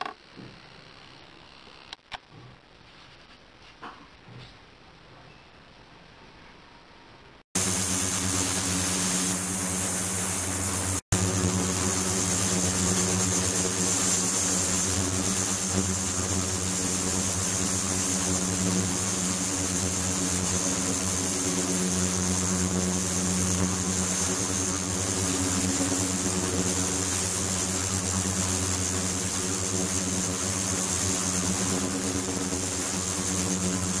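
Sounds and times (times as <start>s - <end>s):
buzzy electrical hum: 5.8s - 34.0s.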